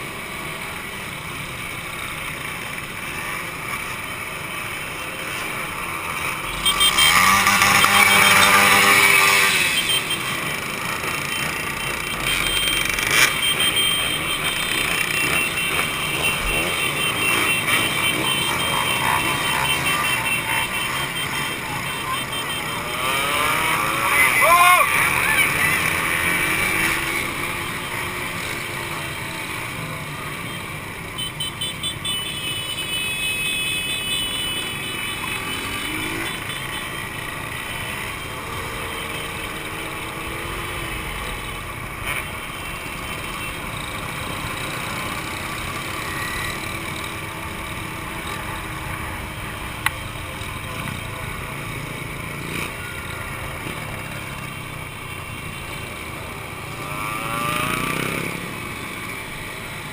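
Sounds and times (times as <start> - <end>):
two-stroke motorcycle engines: 0.0 - 59.9.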